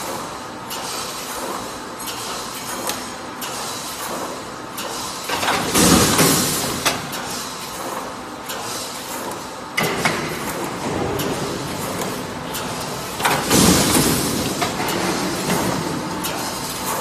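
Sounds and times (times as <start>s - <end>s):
welding machine running: 0.0s - 17.0s.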